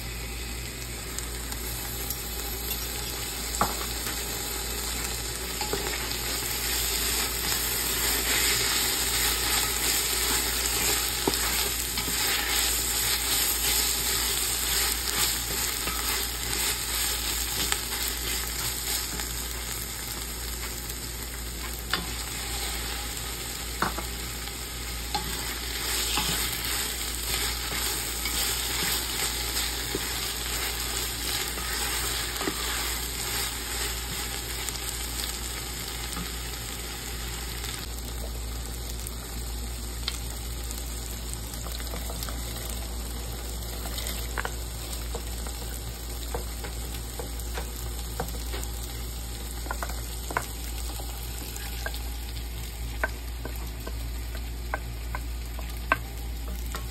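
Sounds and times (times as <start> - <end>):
onions and tomatoes sizzling: 0.0 - 56.9.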